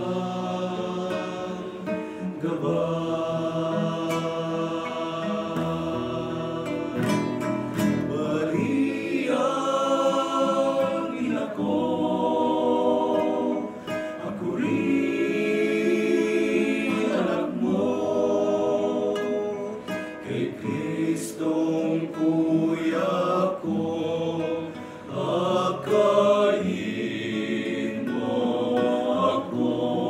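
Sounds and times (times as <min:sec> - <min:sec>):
men singing a hymn: 0:00.0 - 0:30.0
strummed acoustic guitar: 0:00.0 - 0:30.0.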